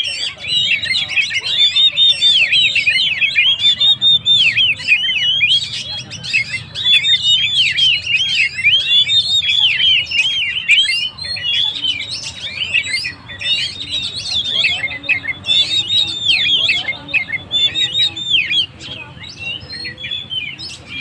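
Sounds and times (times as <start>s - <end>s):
bird singing whistled notes: 0.0s - 21.0s.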